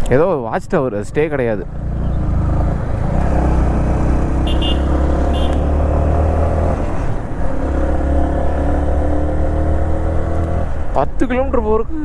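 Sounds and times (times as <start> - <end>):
motorcycle engine running: 0.9 - 11.4.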